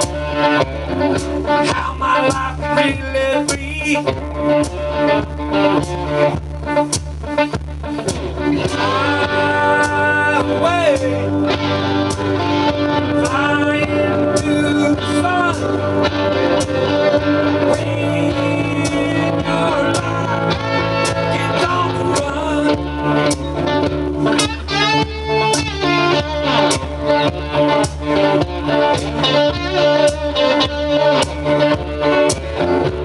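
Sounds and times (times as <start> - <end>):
bass guitar: 0.0 - 33.0
bending lead guitar notes: 0.0 - 33.0
rock guitars: 0.0 - 33.0
drum hits: 3.5 - 33.0.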